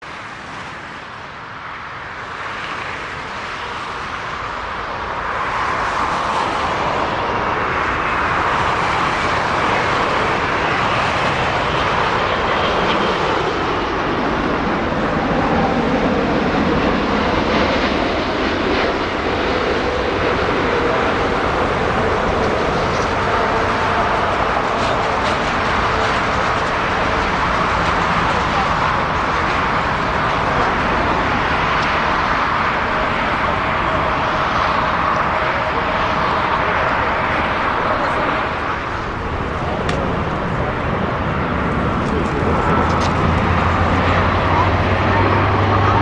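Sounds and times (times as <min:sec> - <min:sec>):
jet airliner engines: 0:00.0 - 0:46.0
faint engine whine: 0:00.1 - 0:46.0.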